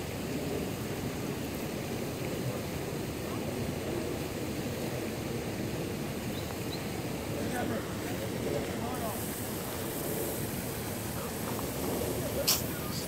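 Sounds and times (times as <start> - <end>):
fountain jets splashing into basin: 0.0 - 13.0.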